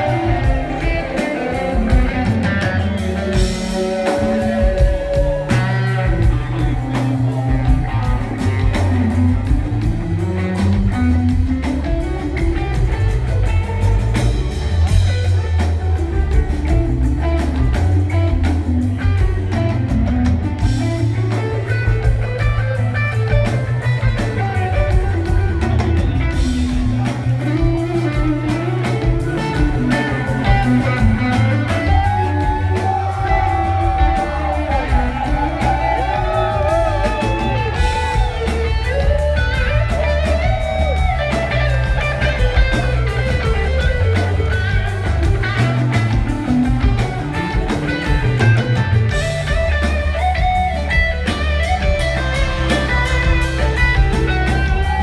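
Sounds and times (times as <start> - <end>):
lead guitar bending notes: 0.0 - 55.0
live rock band playing: 0.0 - 55.0.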